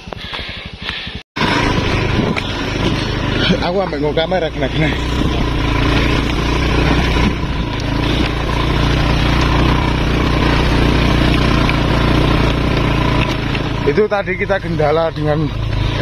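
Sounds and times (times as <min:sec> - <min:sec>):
motorcycle engine under load: 0:00.0 - 0:16.0.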